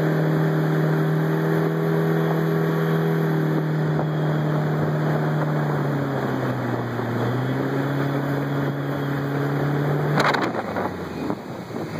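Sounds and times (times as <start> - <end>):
outboard jet motor running: 0.0 - 11.9
water and hull noise: 0.0 - 11.9.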